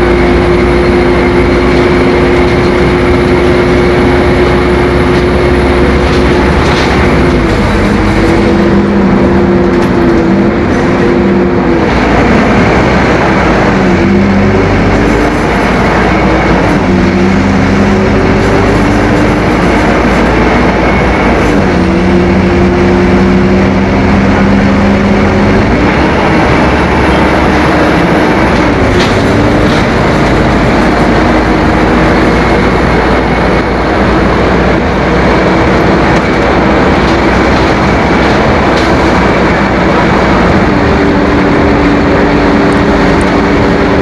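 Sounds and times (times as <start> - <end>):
diesel bus engine running: 0.0 - 44.0.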